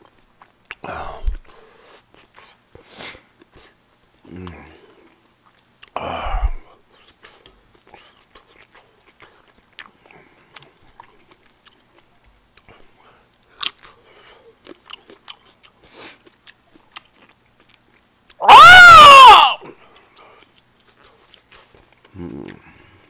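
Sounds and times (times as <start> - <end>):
person chewing food: 0.0 - 2.6, 3.4 - 6.0, 7.0 - 18.4, 19.8 - 23.0.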